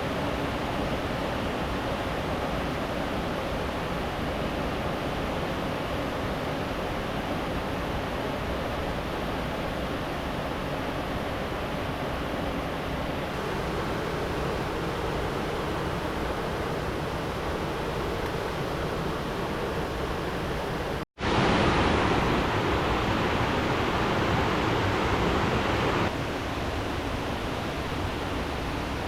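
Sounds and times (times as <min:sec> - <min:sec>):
flowing river water: 0:00.0 - 0:29.0.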